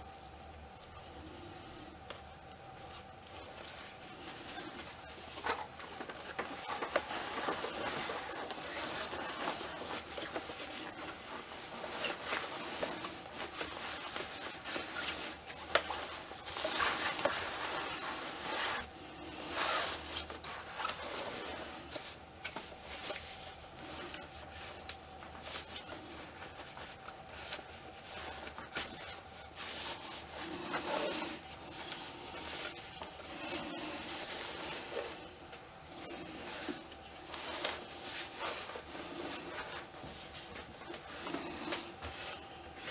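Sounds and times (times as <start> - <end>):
faint steady hum: 0.0 - 42.9
cloth rustling and rubbing: 2.6 - 42.9.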